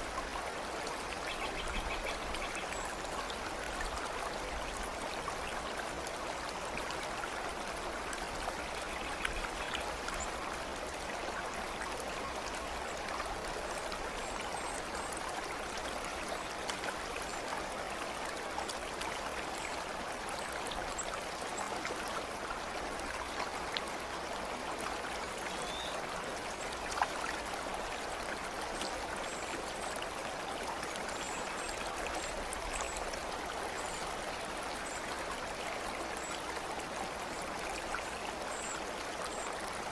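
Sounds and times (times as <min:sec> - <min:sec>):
stream of water flowing: 0:00.0 - 0:39.9.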